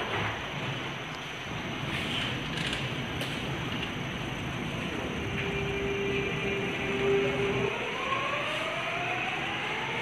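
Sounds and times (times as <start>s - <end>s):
subway train hum and hiss: 0.0s - 10.0s.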